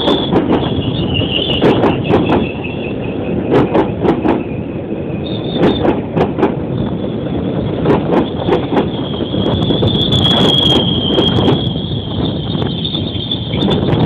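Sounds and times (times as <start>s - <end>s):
wheel squeal: 0.0s - 6.0s, 6.7s - 14.0s
train rumble: 0.0s - 14.0s
train wheels clacking over rail joints: 0.0s - 14.0s.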